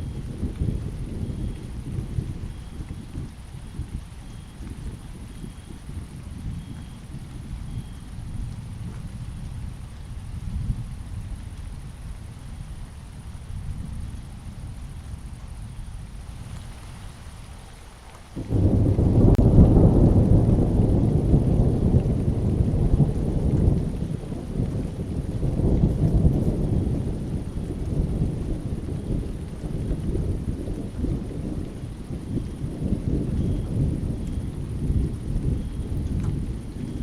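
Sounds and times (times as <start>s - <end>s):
thunder rumbling: 0.0s - 17.6s, 18.3s - 37.0s
rain: 0.0s - 37.0s.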